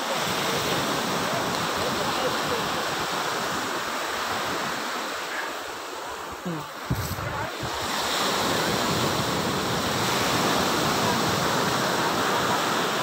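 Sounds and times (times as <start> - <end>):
sea surf washing onto beach: 0.0 - 13.0.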